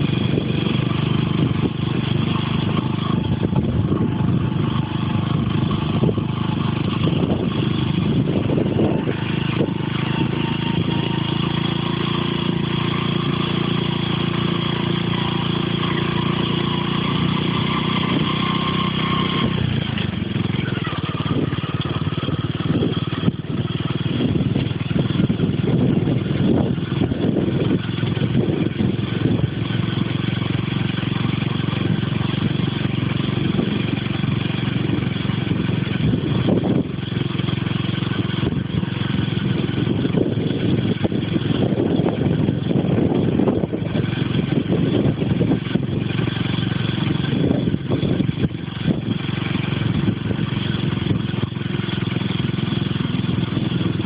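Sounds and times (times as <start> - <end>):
wind buffeting microphone: 0.0 - 17.0, 19.2 - 54.0
vehicle engine drone: 0.0 - 54.0.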